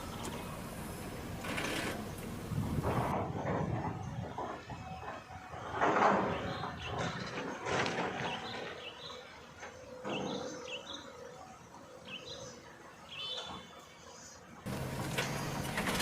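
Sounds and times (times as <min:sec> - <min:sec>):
birds chirping: 0:00.0 - 0:16.0
outdoor background noise: 0:00.0 - 0:16.0.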